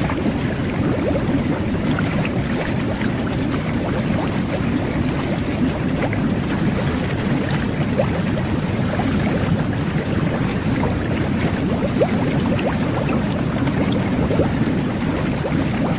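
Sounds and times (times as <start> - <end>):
water jets churning and bubbling: 0.0 - 15.9.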